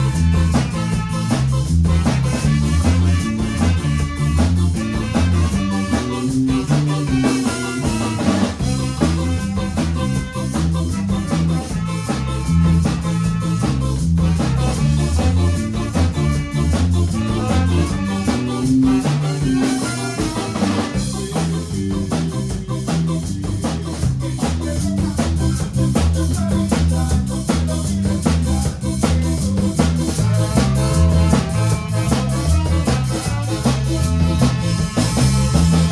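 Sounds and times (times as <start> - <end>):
bass guitar: 0.0 - 35.9
drum kit beat: 0.0 - 35.9
electric guitar: 0.0 - 35.9.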